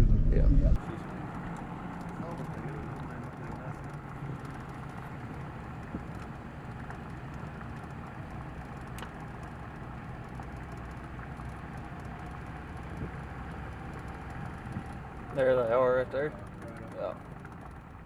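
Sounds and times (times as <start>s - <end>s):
truck engine drone from cab: 0.0s - 18.0s.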